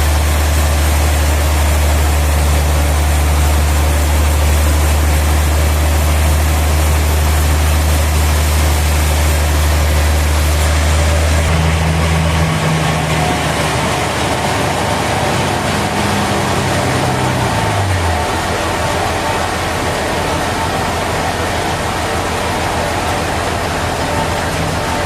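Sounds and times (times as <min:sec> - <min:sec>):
machine winding down: 0:00.0 - 0:25.0
noisy hiss: 0:00.0 - 0:25.0
sawmill machinery hum: 0:00.0 - 0:25.0.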